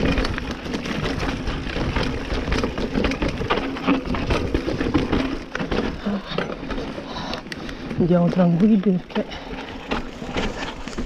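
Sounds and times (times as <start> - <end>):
bike chain and frame rattling: 0.0 - 11.0
bike tyres rolling over dirt: 0.0 - 11.0.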